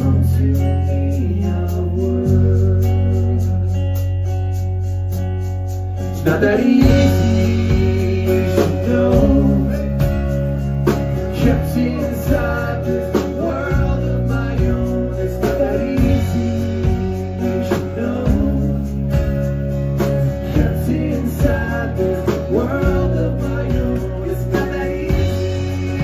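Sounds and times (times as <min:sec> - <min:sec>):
man singing: 0:00.0 - 0:04.0, 0:06.1 - 0:26.0
bass notes: 0:00.0 - 0:26.0
drum kit: 0:00.0 - 0:26.0
strummed acoustic guitar: 0:00.0 - 0:26.0.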